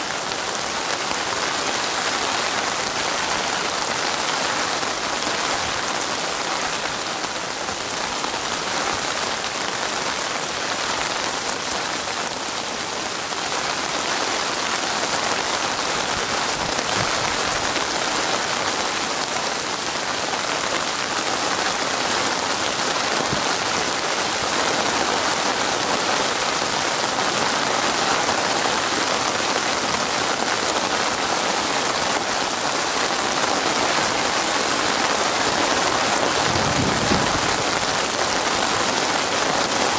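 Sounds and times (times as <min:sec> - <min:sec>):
rain falling on water: 0:00.0 - 0:39.9.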